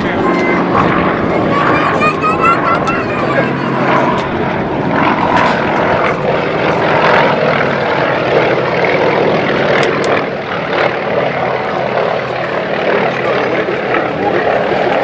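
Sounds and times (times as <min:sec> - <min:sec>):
propeller aircraft overhead: 0:00.0 - 0:15.0.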